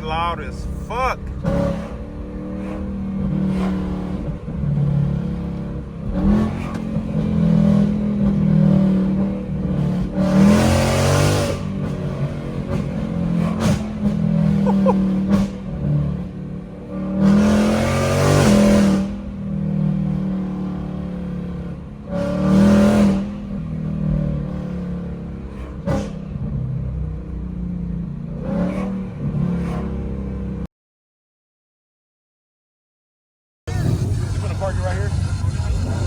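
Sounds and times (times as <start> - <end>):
loud car engine revving: 0.0 - 30.6, 33.7 - 36.0.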